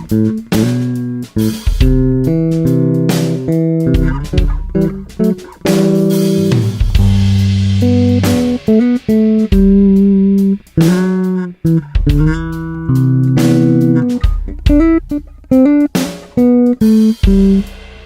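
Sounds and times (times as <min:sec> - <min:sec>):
electric bass punchy low notes: 0:00.0 - 0:17.8.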